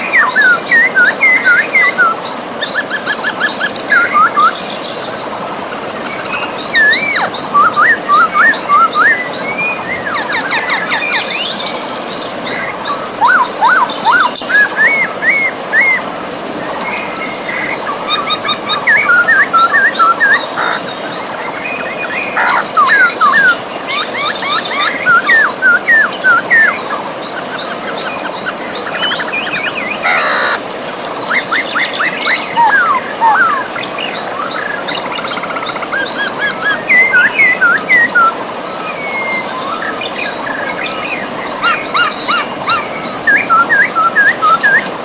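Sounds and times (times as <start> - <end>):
river rushing: 0.0 - 45.0
songbirds singing and chirping: 0.0 - 45.0.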